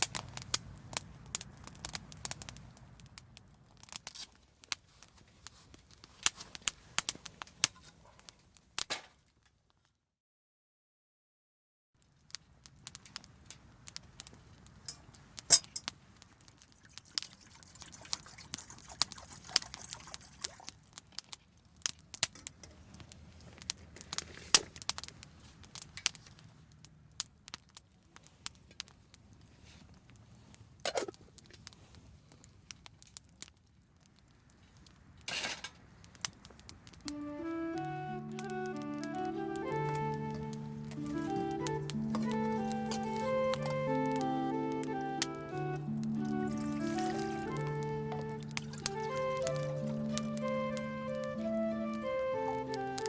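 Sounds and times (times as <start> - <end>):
campfire crackling and popping: 0.0 - 9.9, 12.0 - 53.0.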